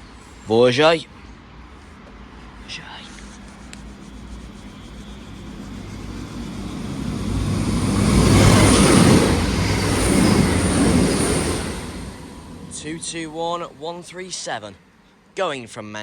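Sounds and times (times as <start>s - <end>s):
train wheel rumble: 0.0s - 14.3s
train engine hum: 0.0s - 15.3s.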